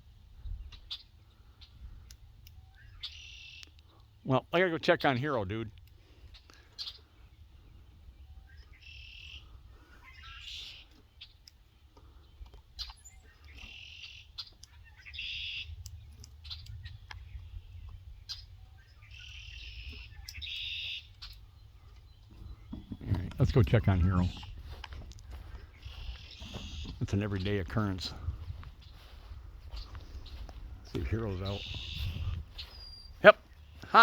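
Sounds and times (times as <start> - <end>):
songbird singing: 0.0 - 34.0.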